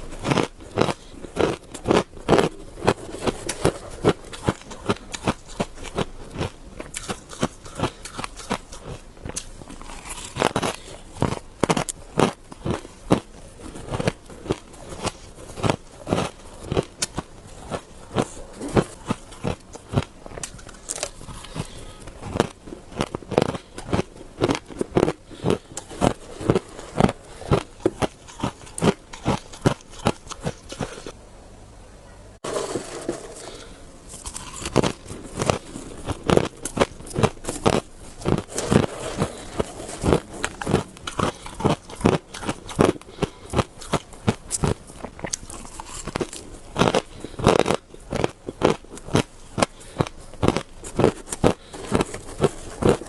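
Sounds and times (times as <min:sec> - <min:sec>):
shaved ice being chewed: 0:00.0 - 0:31.2, 0:32.5 - 0:53.0.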